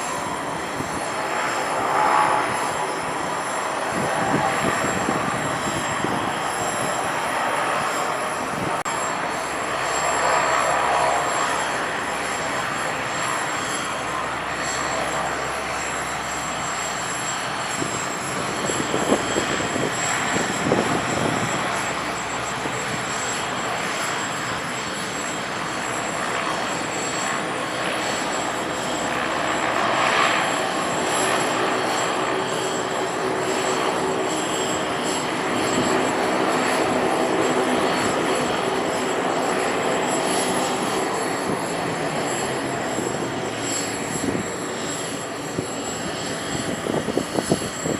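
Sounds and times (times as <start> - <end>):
turboprop aircraft engines: 0.0 - 47.9.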